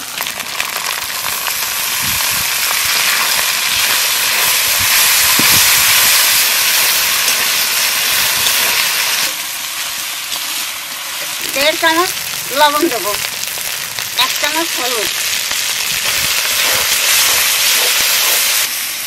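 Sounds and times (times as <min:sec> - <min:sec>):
puree sizzling in hot oil: 0:00.0 - 0:19.0.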